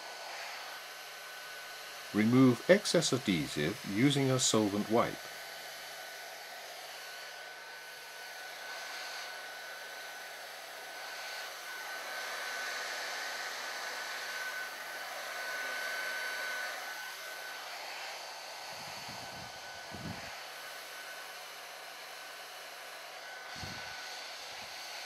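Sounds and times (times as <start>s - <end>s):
heat gun blowing: 0.0s - 25.0s.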